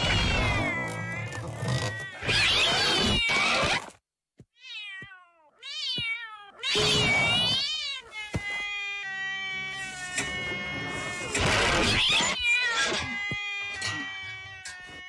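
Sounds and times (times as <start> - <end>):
cat yowling: 0.0 - 3.7, 4.6 - 15.0.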